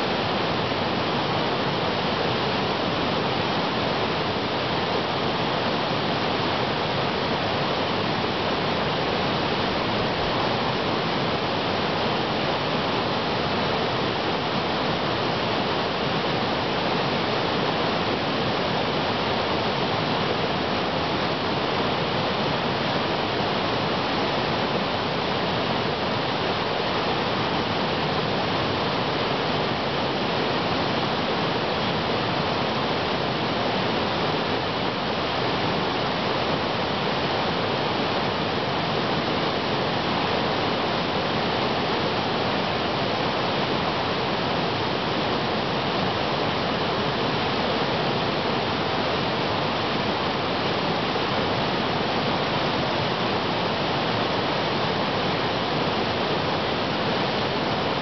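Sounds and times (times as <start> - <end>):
water cascading over rocks: 0.0 - 58.0.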